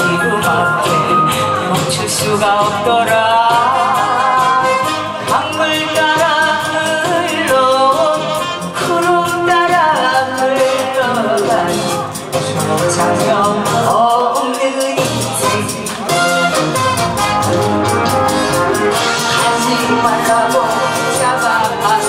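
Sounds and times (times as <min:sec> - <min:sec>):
woman singing into a microphone: 0:00.0 - 0:16.1, 0:19.1 - 0:22.0
backing track with steady beat: 0:00.0 - 0:22.0.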